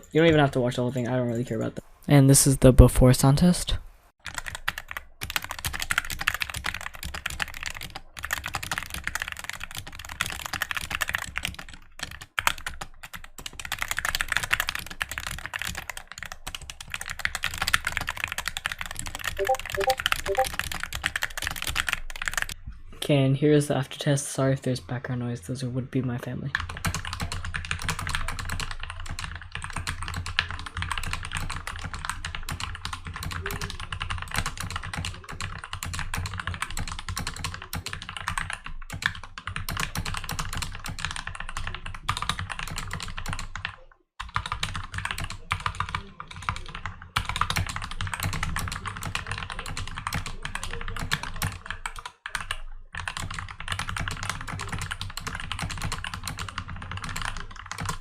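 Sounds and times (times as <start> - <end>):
fast mechanical keyboard typing: 4.2 - 22.6, 26.5 - 58.0.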